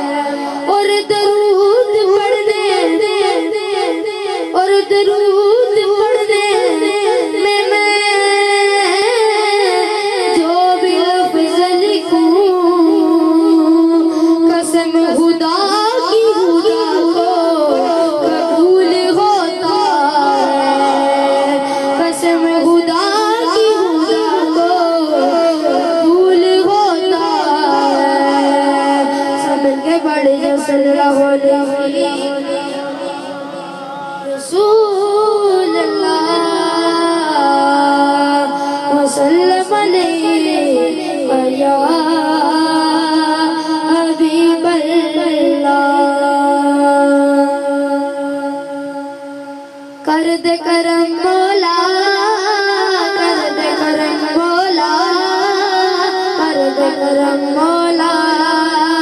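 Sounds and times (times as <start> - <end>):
boy singing into a microphone: 0.0 - 59.0.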